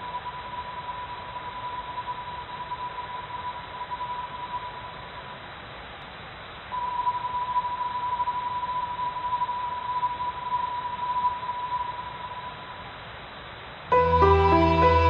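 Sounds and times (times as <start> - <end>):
constant hiss: 0.0 - 15.0.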